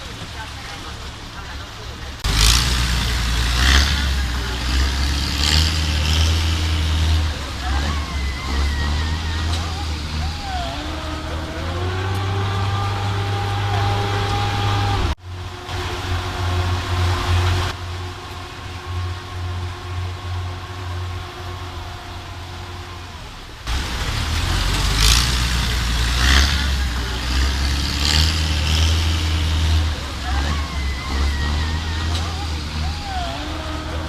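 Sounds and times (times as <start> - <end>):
low engine rumble: 0.0 - 34.0.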